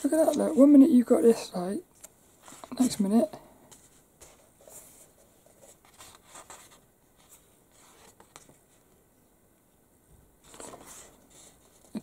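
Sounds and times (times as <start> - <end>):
magazine pages rustling: 0.0 - 8.9, 10.4 - 12.0.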